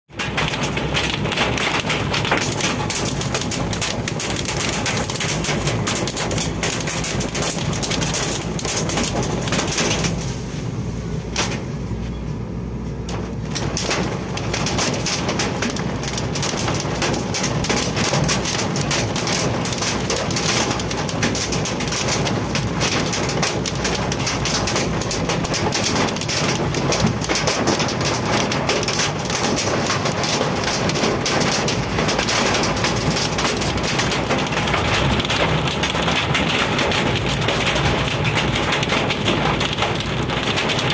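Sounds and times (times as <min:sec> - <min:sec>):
hail and rain drumming on car roof: 0:00.1 - 0:11.7, 0:13.0 - 0:40.9.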